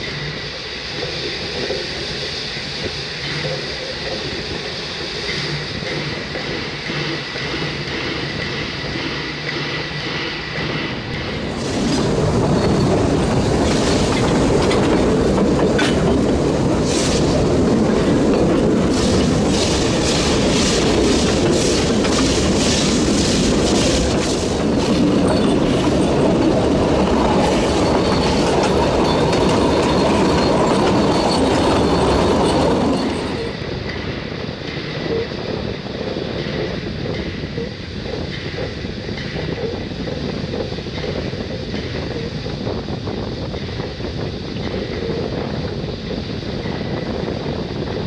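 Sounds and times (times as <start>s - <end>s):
train carriages rumbling on rails: 0.0s - 48.0s
wheels clickety-clack: 0.0s - 48.0s.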